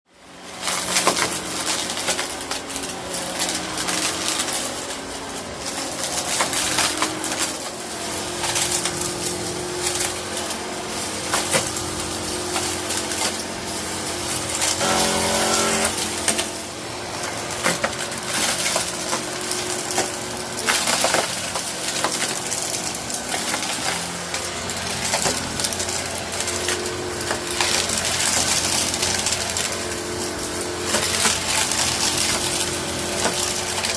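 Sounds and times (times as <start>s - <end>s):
vacuum cleaner motor hum: 0.1s - 33.9s.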